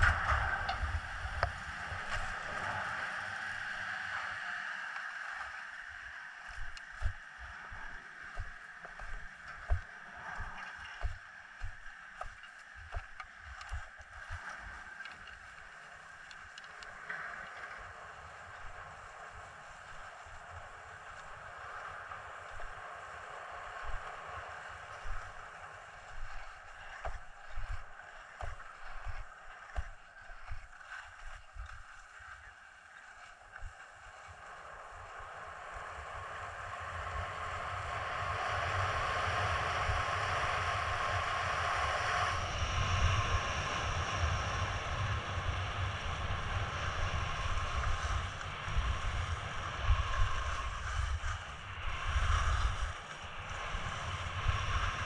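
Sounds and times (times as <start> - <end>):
wind buffeting microphone: 0.0 - 4.6, 5.8 - 55.0
skis scraping over snow: 0.0 - 55.0.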